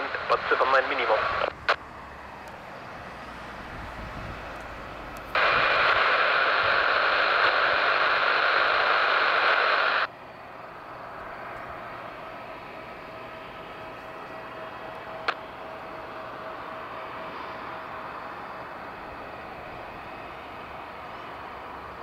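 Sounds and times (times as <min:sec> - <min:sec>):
radio static hiss: 0:00.0 - 0:01.8, 0:05.2 - 0:10.1, 0:10.7 - 0:22.0.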